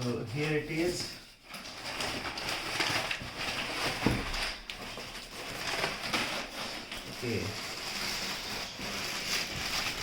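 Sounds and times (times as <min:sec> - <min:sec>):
wrapping rustling crackly: 0:00.0 - 0:10.0.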